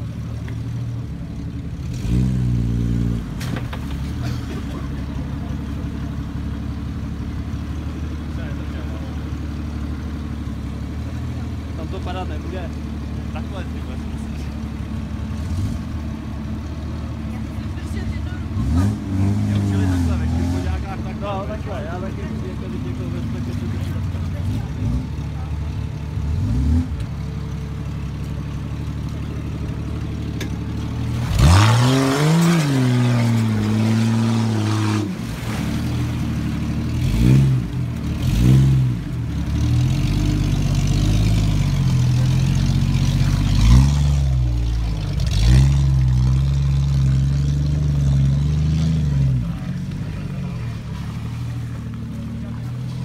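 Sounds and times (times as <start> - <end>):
car engine revving under load: 0.0 - 53.0.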